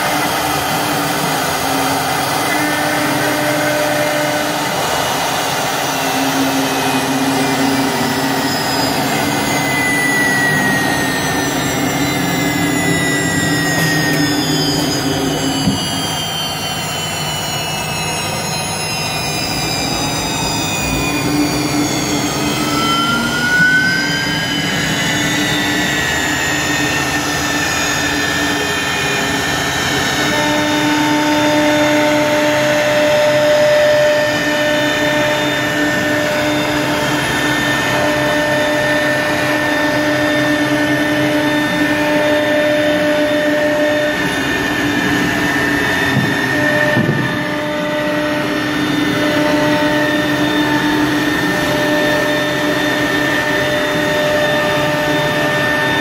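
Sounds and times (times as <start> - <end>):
router spindles whining: 0.0 - 56.0.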